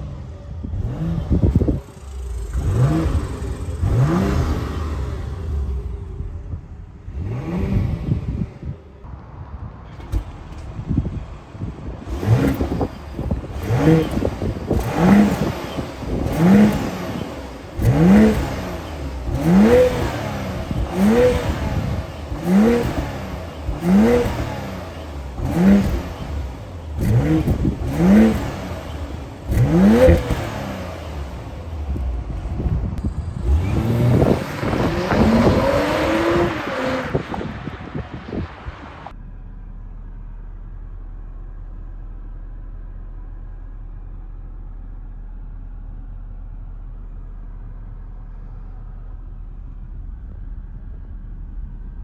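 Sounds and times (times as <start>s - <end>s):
car exhaust revving: 0.0s - 9.1s, 10.0s - 52.0s.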